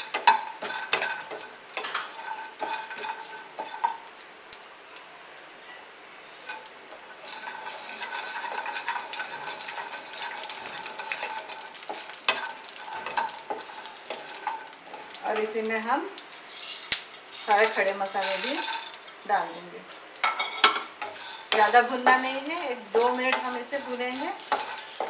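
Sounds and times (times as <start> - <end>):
wooden spatula scraping a pan: 0.0 - 4.1, 6.5 - 25.0
light sizzling and crackling: 0.0 - 25.0.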